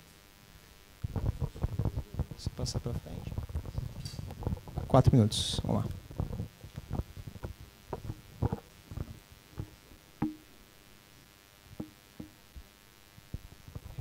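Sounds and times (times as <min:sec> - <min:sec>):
microphone handling thumps and rubs: 0:01.0 - 0:10.5, 0:11.7 - 0:14.0.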